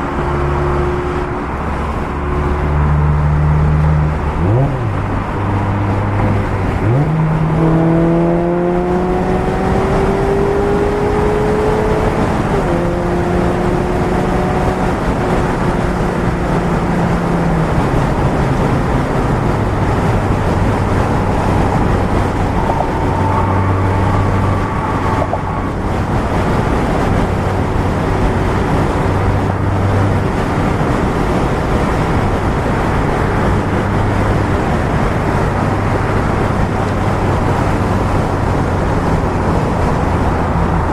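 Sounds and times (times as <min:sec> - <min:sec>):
car engine accelerating: 0:00.0 - 0:40.9
road noise: 0:00.0 - 0:40.9.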